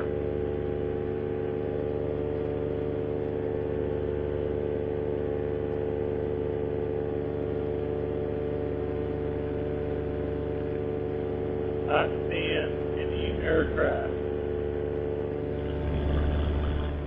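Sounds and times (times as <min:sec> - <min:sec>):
paramotor engine droning: 0:00.0 - 0:17.0.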